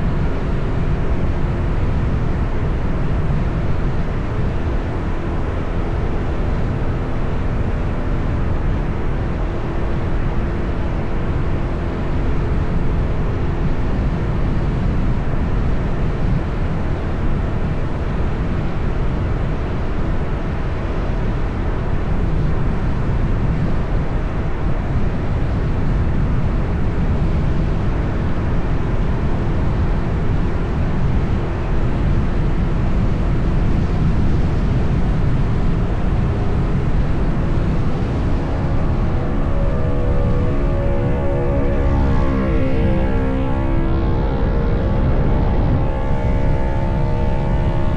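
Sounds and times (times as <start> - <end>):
city traffic rumble: 0.0 - 47.9
faint engine hum: 0.0 - 47.9.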